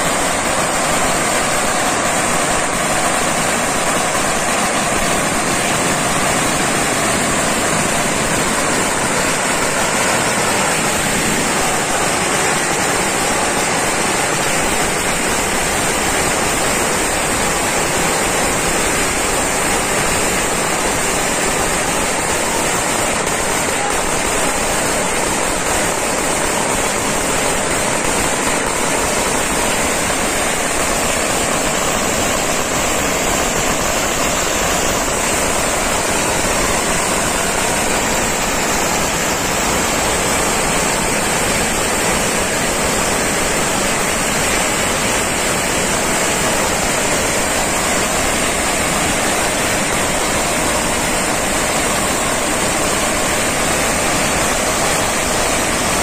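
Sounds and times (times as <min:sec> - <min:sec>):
firecrackers rapid bangs: 0:00.0 - 0:56.0.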